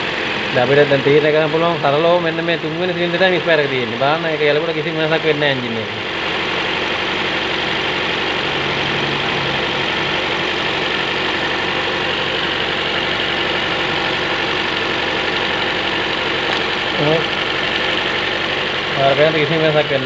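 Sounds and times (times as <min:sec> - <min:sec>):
engine idling with misfire: 0:00.0 - 0:20.0.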